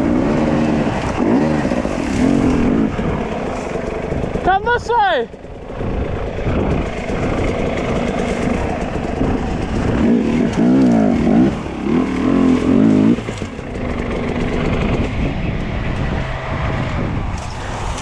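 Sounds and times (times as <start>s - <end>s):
dirt bike engine revving: 0.0s - 17.8s.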